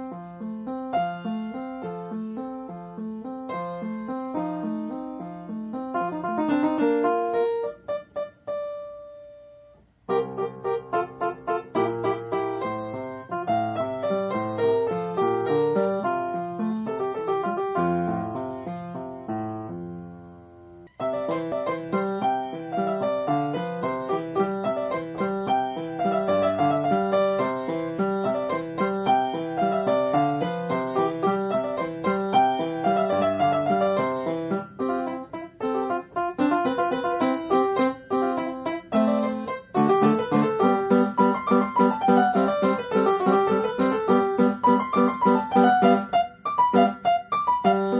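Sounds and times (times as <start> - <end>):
solo piano music: 0.0 - 47.9.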